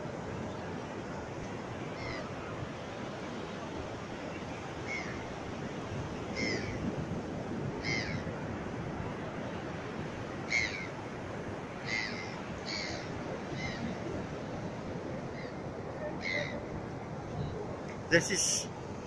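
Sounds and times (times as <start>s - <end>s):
surf rushing: 0.0s - 19.0s.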